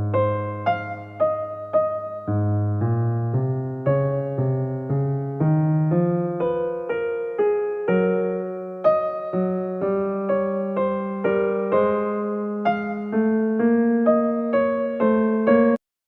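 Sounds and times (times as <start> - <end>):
electric piano chords: 0.0 - 15.8.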